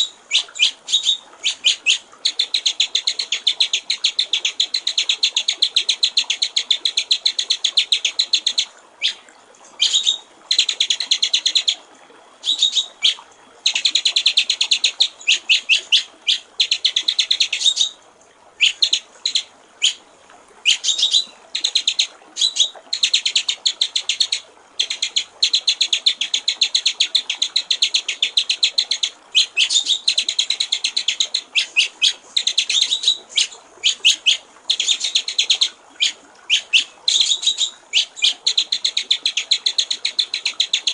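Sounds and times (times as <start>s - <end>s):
faint trickling water: 0.0s - 40.9s.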